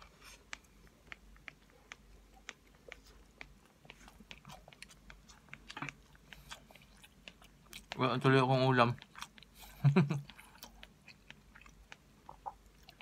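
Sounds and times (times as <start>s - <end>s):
wet mouth clicks and smacks: 0.0s - 8.1s, 10.2s - 13.0s
person chewing rice: 0.0s - 13.0s.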